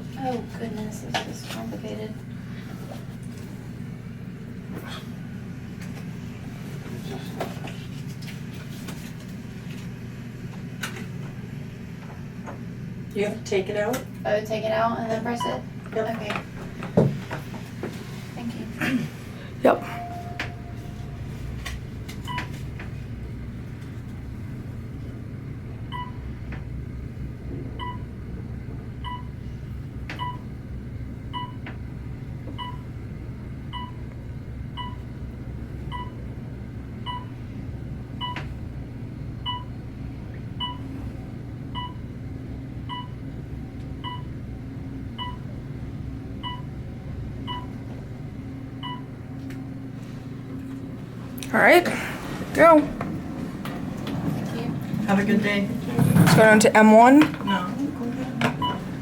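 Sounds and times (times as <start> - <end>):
elevator low hum: 0.0 - 59.0.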